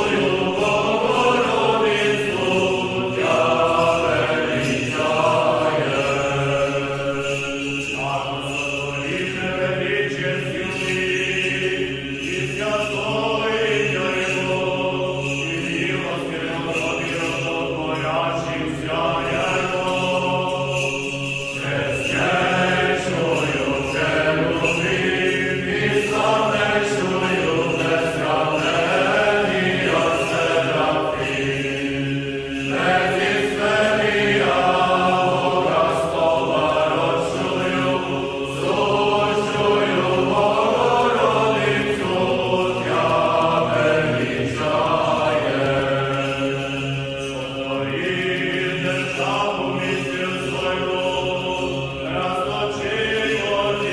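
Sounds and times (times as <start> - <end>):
voices chanting slow melody: 0.0 - 53.9.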